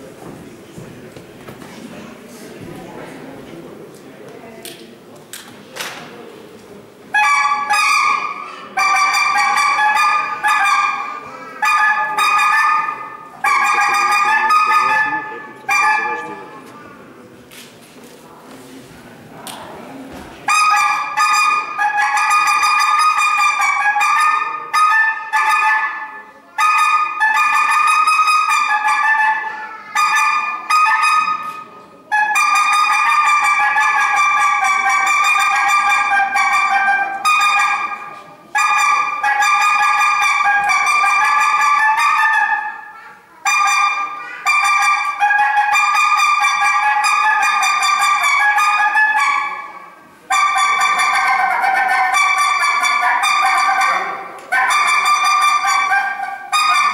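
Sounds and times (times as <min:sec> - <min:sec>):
reedy horn-like wind instrument notes: 0:07.1 - 0:16.7, 0:20.4 - 0:56.9.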